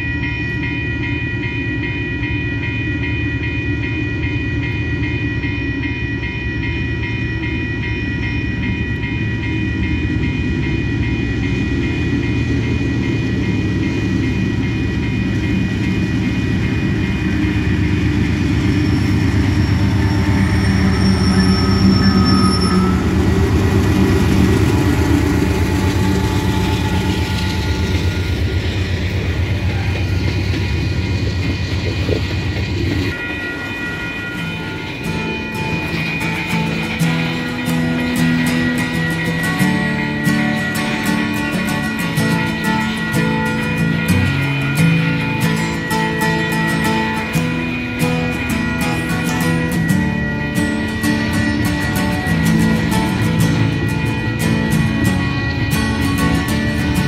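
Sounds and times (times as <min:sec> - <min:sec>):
crossing bell ringing: 0:00.0 - 0:57.0
diesel locomotive rumble: 0:03.5 - 0:57.0.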